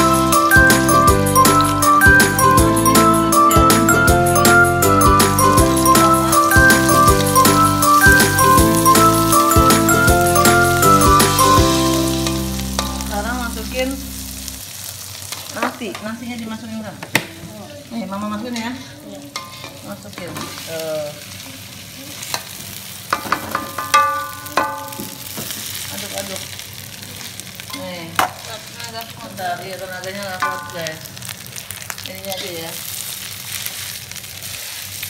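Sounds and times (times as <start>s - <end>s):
food frying in a wok: 0.0s - 35.0s.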